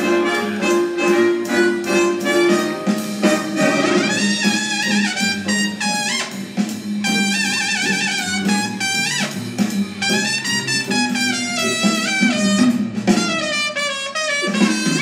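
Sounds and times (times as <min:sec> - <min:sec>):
jazzy brass band music: 0:00.0 - 0:15.0.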